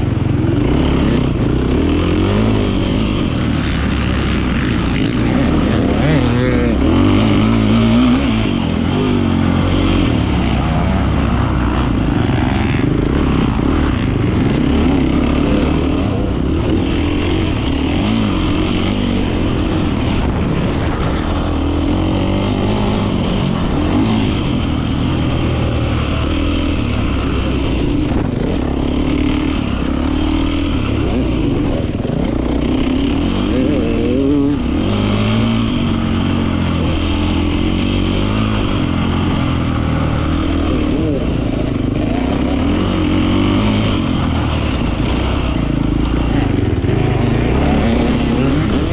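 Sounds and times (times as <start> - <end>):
motocross engine revving: 0.0 - 48.9.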